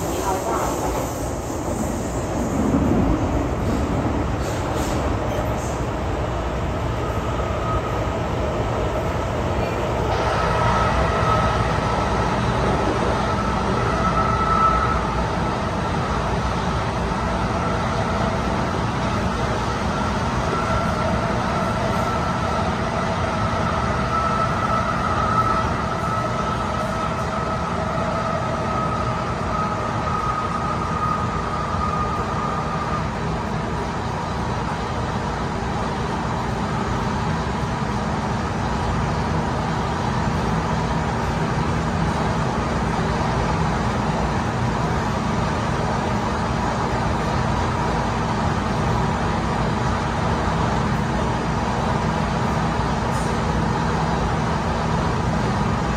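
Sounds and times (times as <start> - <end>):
metro train wheels rumbling: 0.0 - 55.9.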